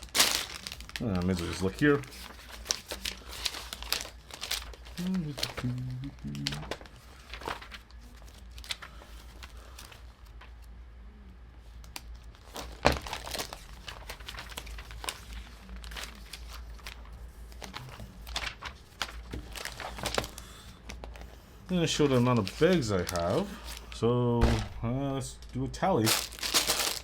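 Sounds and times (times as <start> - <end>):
plastic bags crinkling: 0.0 - 10.1, 12.2 - 27.0.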